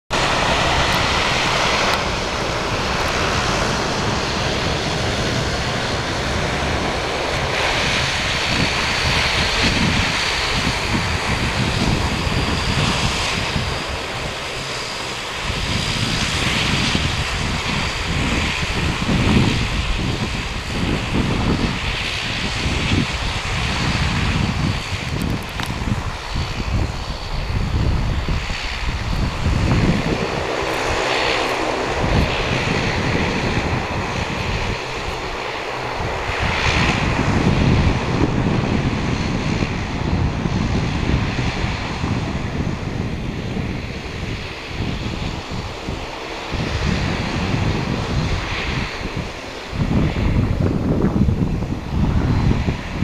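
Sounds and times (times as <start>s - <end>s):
turbine engine whine: 0.0s - 53.0s
helicopter rotor beat: 0.1s - 53.0s.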